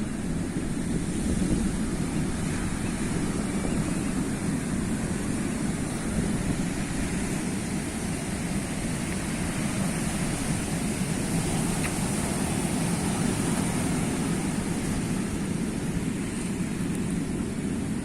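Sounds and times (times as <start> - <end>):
sea surf rushing: 0.0 - 18.0.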